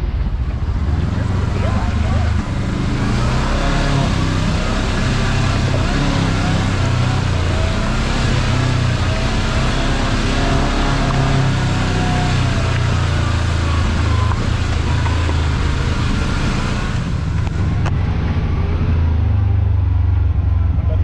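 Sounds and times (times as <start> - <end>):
tyres on dirt trail: 0.0 - 21.0
vehicle engine running: 0.0 - 21.0.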